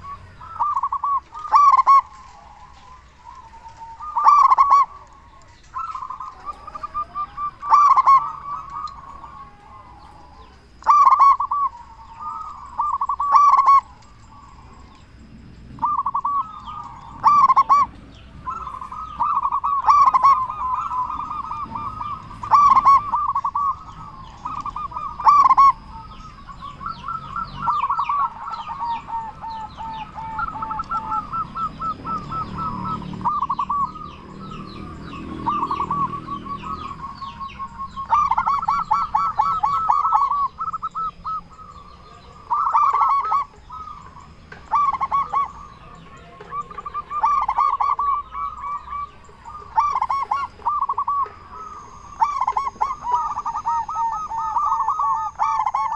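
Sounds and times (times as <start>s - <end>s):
dove loud deep rolling coo: 0.0s - 55.9s
doves cooing softly: 0.0s - 55.9s.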